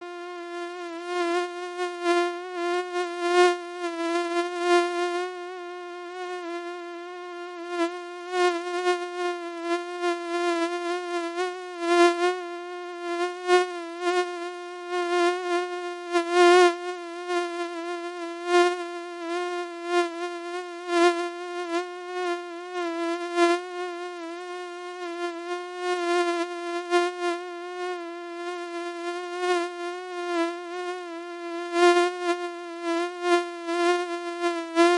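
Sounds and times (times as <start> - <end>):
mosquito whine: 0.0 - 34.9.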